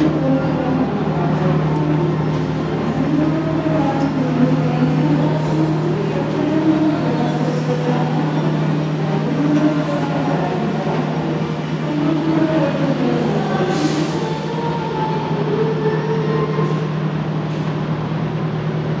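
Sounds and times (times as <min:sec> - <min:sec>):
background murmur: 0:00.0 - 0:17.0
diesel train humming: 0:00.0 - 0:19.0.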